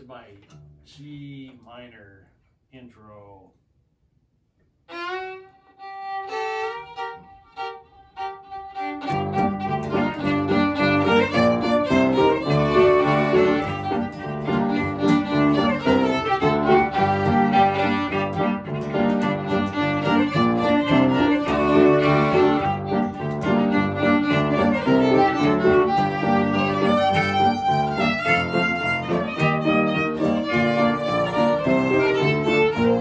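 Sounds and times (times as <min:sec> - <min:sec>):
solo fiddle intro: 0:04.9 - 0:33.0.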